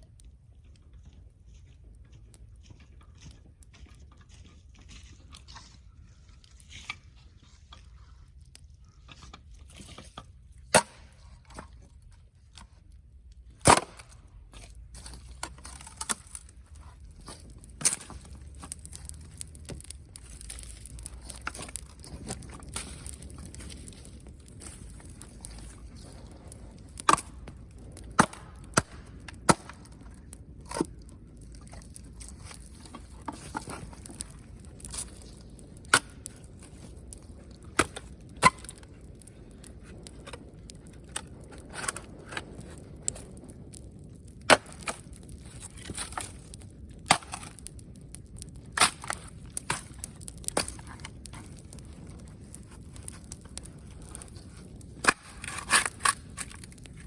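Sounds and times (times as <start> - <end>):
campfire crackling and popping: 0.0 - 57.0
low hiss of burning fire: 0.0 - 57.0.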